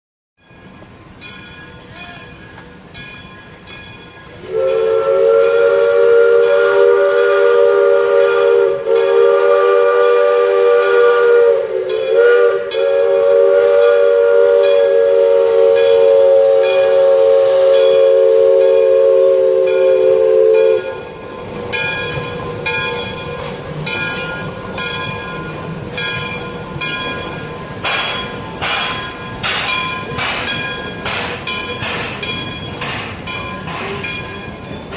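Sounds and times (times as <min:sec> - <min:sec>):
steam locomotive chime whistle: 0:00.4 - 0:34.9
steam hissing: 0:03.6 - 0:34.9.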